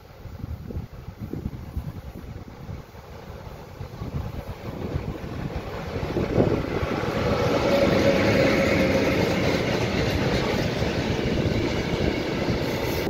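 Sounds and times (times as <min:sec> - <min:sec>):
steady locomotive tone: 0:00.0 - 0:13.0
wheels rumbling on rails: 0:00.4 - 0:13.0.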